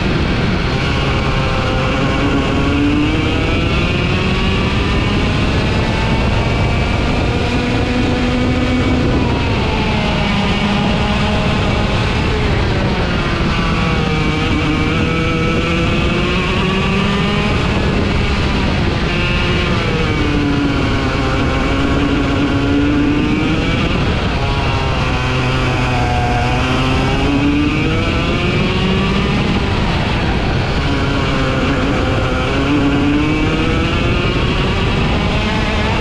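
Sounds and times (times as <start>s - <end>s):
kart engine revving: 0.0s - 36.0s
wind and road rush: 0.0s - 36.0s.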